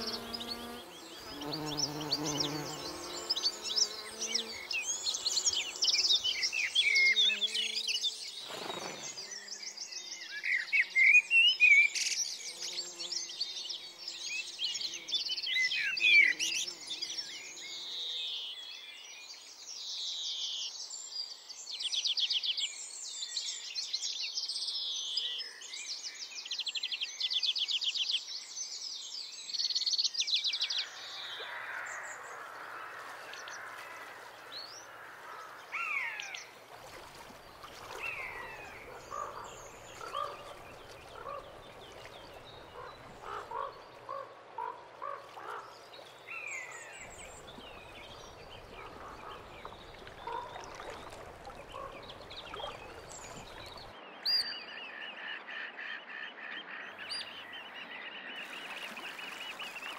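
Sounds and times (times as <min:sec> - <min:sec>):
songbirds trilling: 0:00.0 - 0:18.7, 0:29.5 - 0:59.9
bird calls and chirps: 0:00.0 - 0:59.9.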